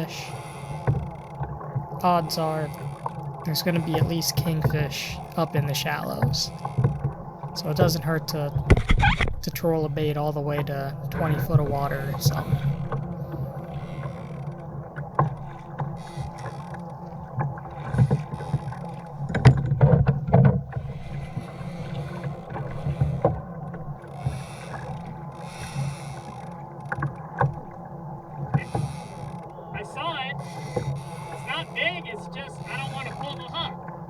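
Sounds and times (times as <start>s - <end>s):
water sloshing against hull: 0.0s - 34.0s.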